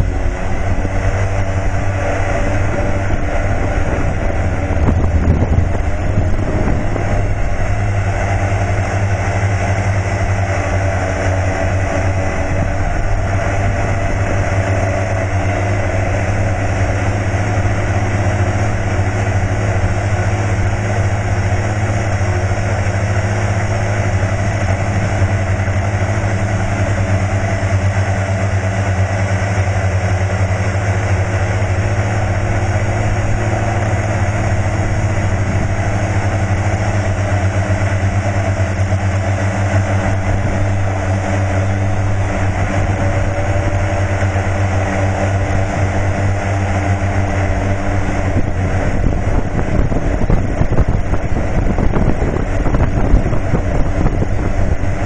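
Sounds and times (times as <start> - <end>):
model aircraft rotor drone: 0.0 - 55.0.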